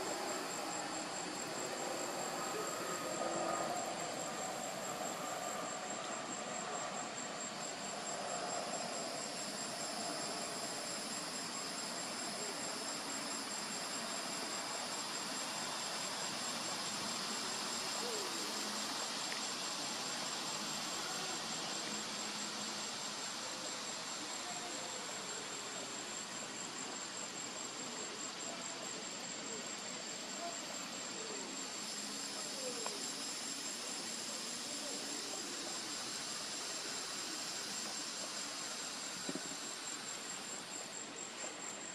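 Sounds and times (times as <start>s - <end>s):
background hiss: 0.0s - 41.9s
insects trilling: 0.0s - 41.9s.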